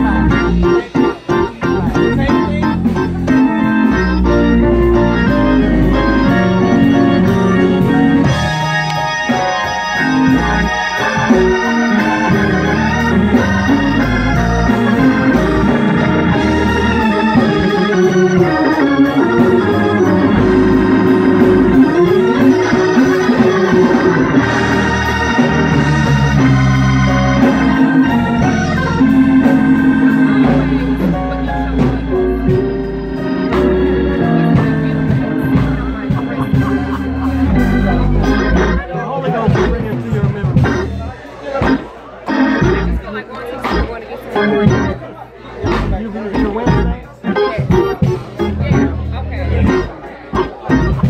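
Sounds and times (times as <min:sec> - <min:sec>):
electric organ playing gospel chords: 0:00.0 - 0:51.0.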